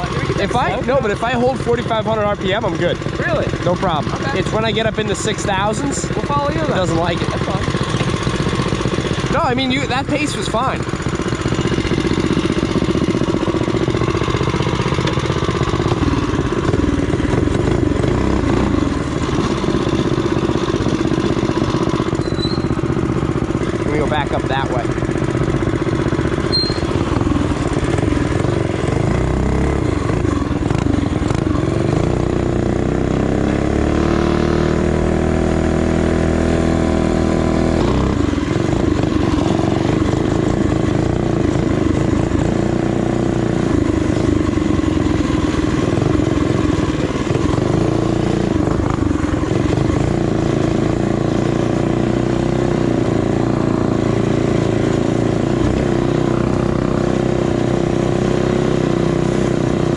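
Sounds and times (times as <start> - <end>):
minibike engine running: 0.0 - 59.9.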